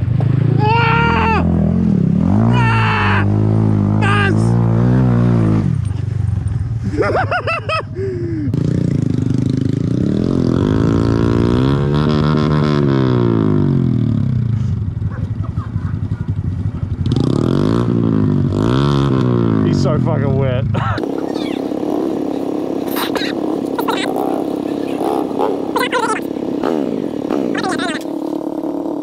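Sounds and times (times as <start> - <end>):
motorcycle engine revving: 0.0 - 7.4, 8.4 - 29.0.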